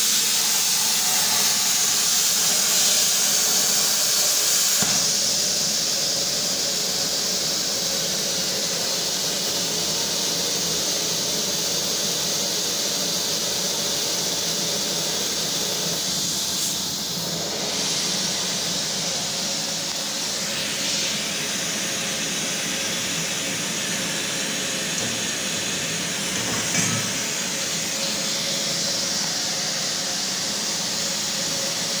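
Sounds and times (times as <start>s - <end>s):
loud hiss of rushing air: 0.0s - 32.0s.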